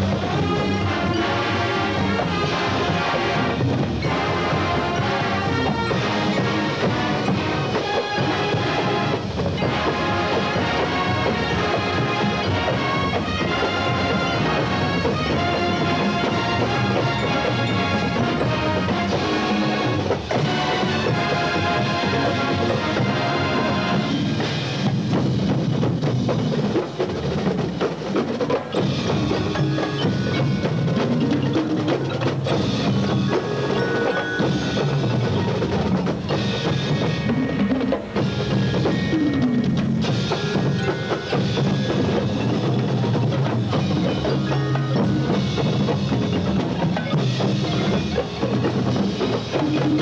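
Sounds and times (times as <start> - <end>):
mallet keyboards ringing: 0.0 - 24.6, 26.4 - 50.0
marching drums beating: 0.0 - 50.0
timpani: 0.0 - 50.0.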